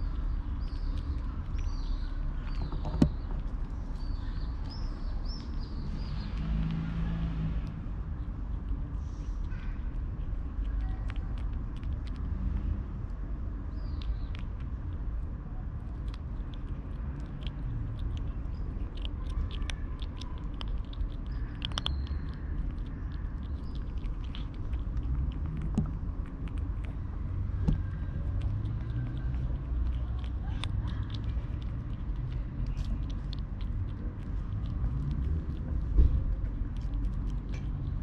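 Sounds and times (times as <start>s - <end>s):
kitten crunching dry kibble: 0.0s - 38.0s
steady low rumble: 0.0s - 38.0s.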